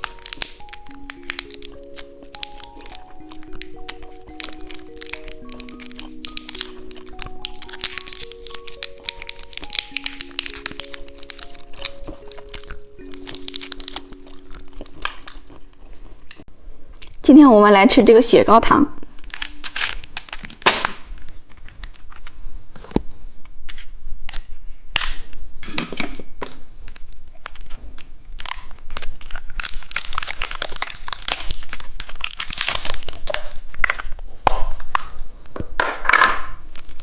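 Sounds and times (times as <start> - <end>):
plastic wrapper crinkling: 0.0 - 17.6, 19.2 - 23.0, 26.4 - 35.1, 36.6 - 37.0.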